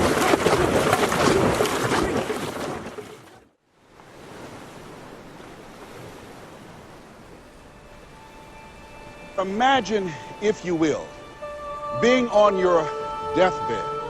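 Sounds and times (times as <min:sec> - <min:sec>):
water splashing and rushing: 0:00.0 - 0:11.4.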